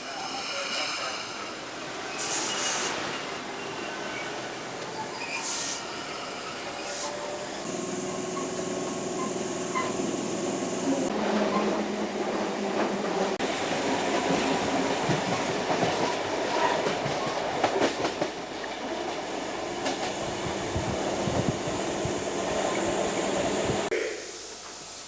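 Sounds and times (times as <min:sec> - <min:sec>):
electric train rumbling on rails: 0:00.0 - 0:23.9.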